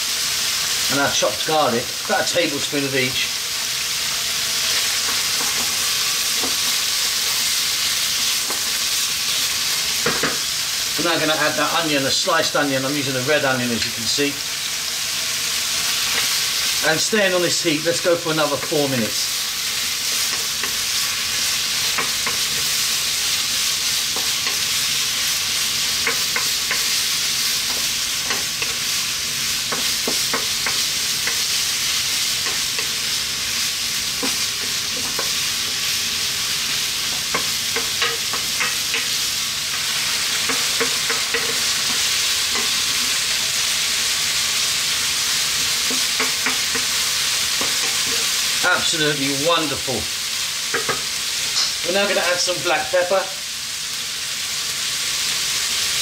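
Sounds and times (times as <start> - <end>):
meat and onion sizzling in oil: 0.0 - 56.0.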